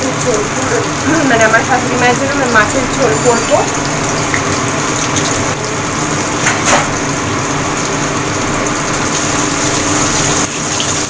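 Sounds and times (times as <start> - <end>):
rushing kitchen noise: 0.0 - 11.0.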